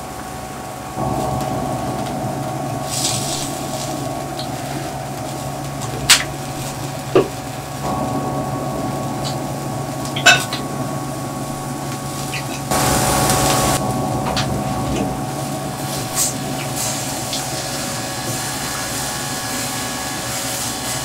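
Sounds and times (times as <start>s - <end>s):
grill fan hum: 0.0s - 21.0s.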